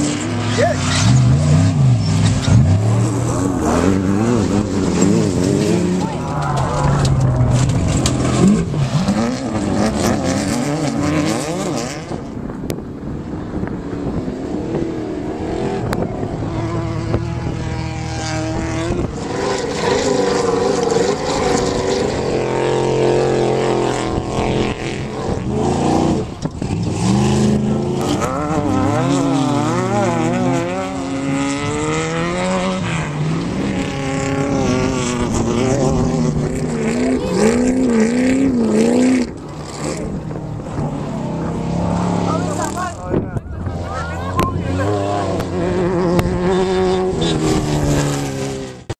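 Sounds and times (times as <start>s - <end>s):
race vehicle engines revving: 0.0s - 48.9s.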